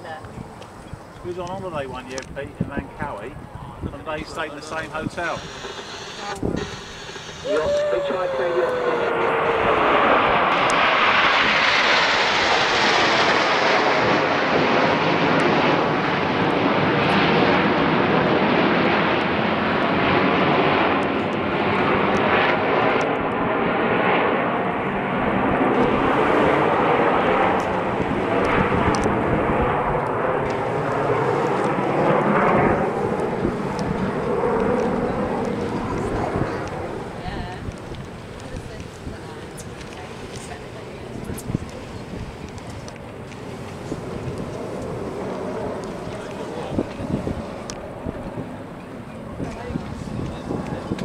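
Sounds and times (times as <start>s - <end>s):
jets flying over: 0.0s - 51.0s.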